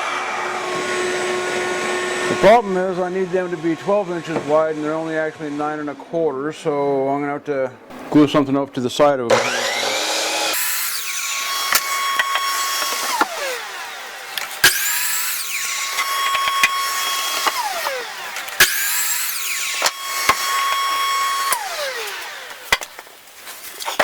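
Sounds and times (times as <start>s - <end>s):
electric saw cutting board: 0.0s - 6.0s, 9.3s - 24.0s.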